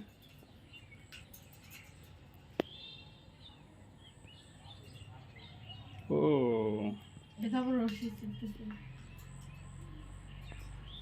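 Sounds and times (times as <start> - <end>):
faint bird chirps and twitters: 0.0 - 11.0.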